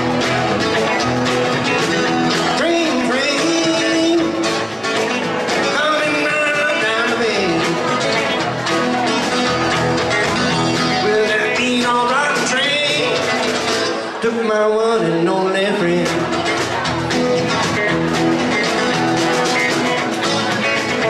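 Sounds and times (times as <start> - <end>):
electric guitar lead with bent notes: 0.0 - 21.0
rock band playing: 0.0 - 21.0.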